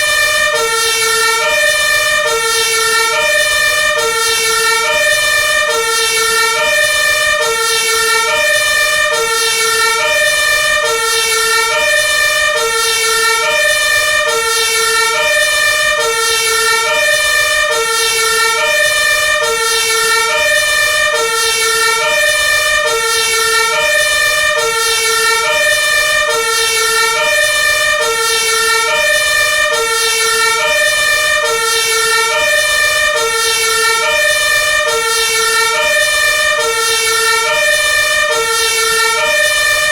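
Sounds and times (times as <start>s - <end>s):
two-tone fire truck siren: 0.0s - 39.9s.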